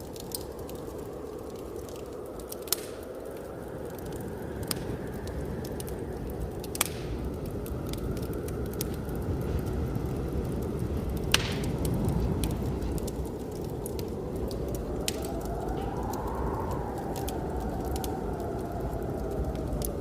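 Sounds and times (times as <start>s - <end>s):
low rumble of blizzard wind: 0.0s - 20.0s
wood fire crackling and popping: 0.0s - 20.0s.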